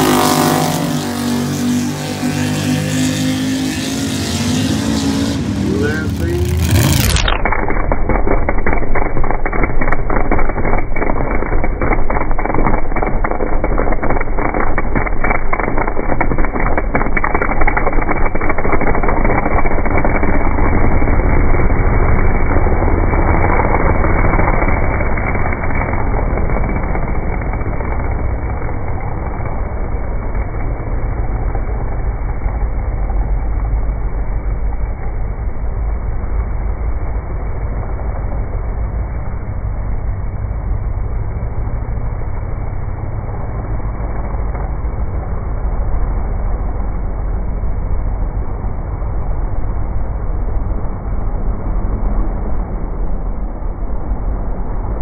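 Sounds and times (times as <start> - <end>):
loud truck engine with crackling exhaust: 0.0 - 55.0.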